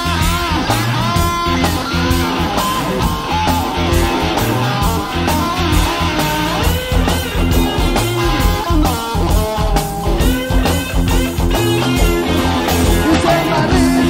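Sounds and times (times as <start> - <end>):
bass guitar: 0.0 - 14.0
drums and cymbals: 0.0 - 14.0
electric guitar lead line: 0.0 - 14.0.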